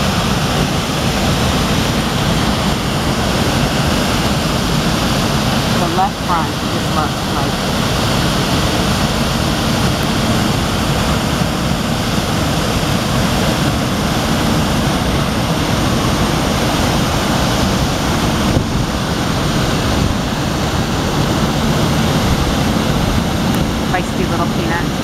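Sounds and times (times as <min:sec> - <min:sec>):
river flowing: 0:00.0 - 0:25.0
wind buffeting microphone: 0:00.0 - 0:25.0.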